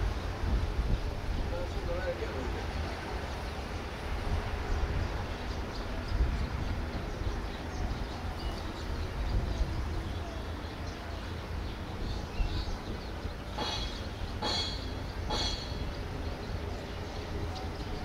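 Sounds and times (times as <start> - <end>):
diesel locomotive rumbling: 0.0 - 18.0
wind buffeting microphone: 0.0 - 18.0.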